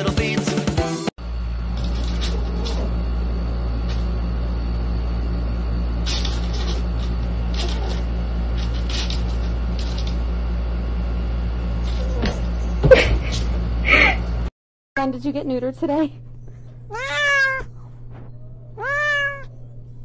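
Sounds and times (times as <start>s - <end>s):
constant hum: 1.2s - 20.0s.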